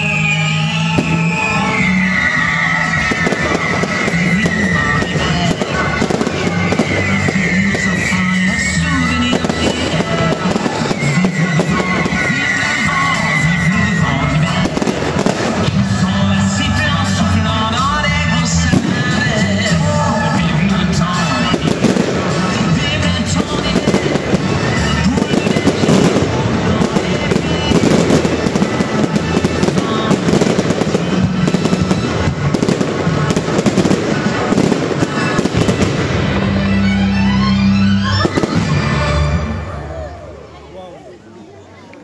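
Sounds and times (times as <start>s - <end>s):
fireworks bursting and crackling: 0.0s - 37.2s, 38.1s - 39.5s
music over sound system: 0.0s - 40.6s.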